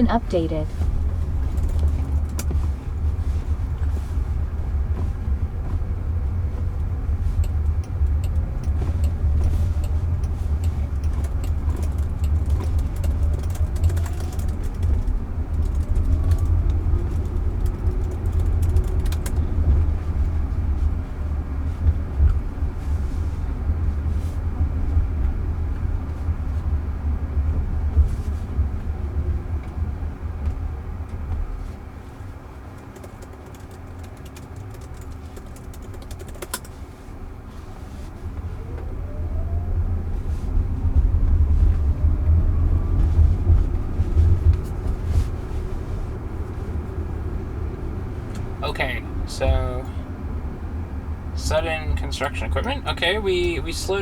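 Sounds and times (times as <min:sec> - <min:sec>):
road and tyre rumble in car: 0:00.0 - 0:54.0.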